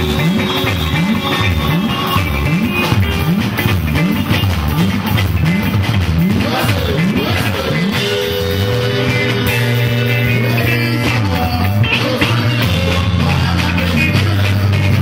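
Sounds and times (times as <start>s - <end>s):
live band playing dance music: 0.0s - 15.0s.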